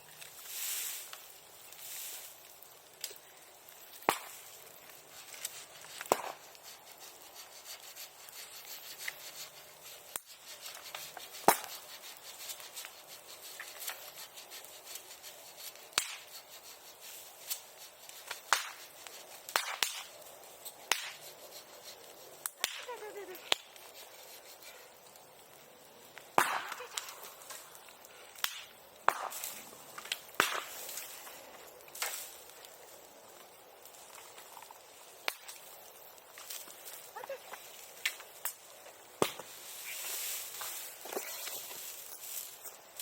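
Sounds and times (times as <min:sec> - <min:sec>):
bonfire crackling and popping: 0:00.0 - 0:43.0
low steady hiss: 0:00.0 - 0:43.0.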